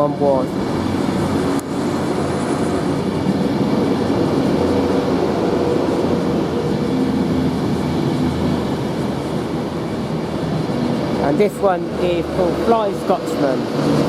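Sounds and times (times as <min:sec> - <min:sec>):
electric train running: 0:00.0 - 0:14.0.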